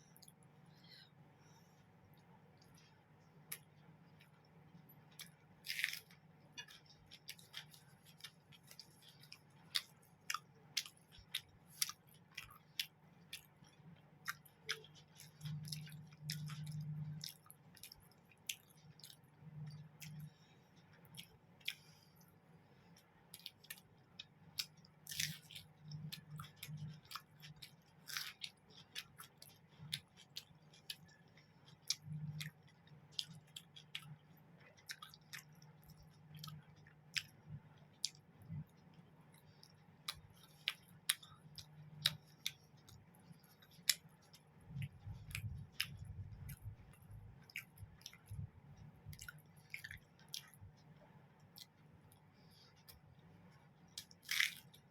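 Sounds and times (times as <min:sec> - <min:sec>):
chewing and mouth smacks: 0:02.2 - 0:22.0, 0:22.9 - 0:54.9.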